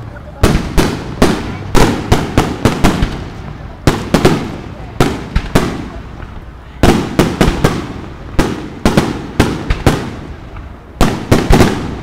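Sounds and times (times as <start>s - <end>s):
fireworks bangs echoing: 0.1s - 12.0s.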